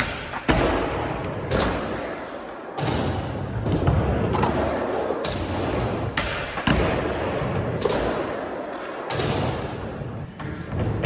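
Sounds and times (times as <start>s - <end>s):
skateboard wheels rolling: 0.0s - 9.2s
skateboard clacks and thuds: 0.0s - 11.0s.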